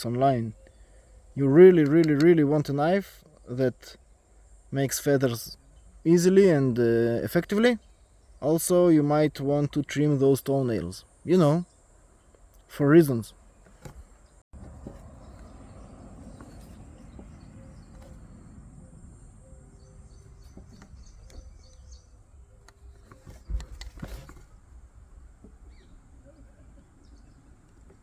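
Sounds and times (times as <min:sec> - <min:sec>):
birds chirping faintly: 0:00.0 - 0:28.0.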